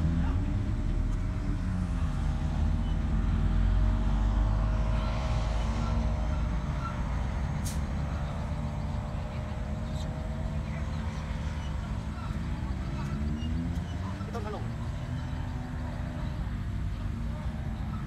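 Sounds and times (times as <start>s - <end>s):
paramotor engine droning overhead: 0.0s - 18.0s.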